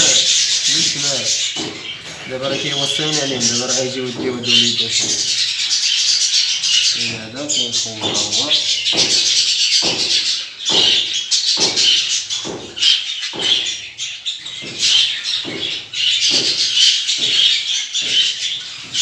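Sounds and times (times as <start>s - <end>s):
budgerigars chattering and chirping: 0.0s - 19.0s.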